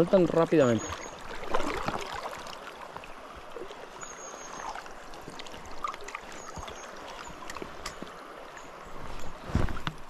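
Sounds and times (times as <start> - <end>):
river water running: 0.0 - 10.0.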